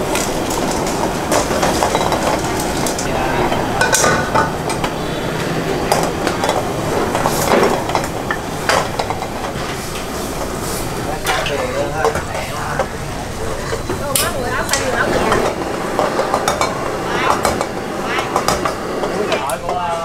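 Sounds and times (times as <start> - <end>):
liquid bubbling in wok: 0.0 - 19.8
gas burner rushing: 0.0 - 20.0.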